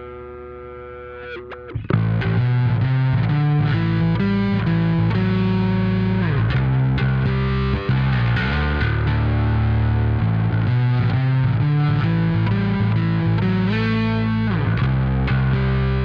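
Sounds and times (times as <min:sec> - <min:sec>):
distorted bass guitar riff: 0:00.0 - 0:16.0
bass note sweeping and sliding: 0:01.9 - 0:16.0.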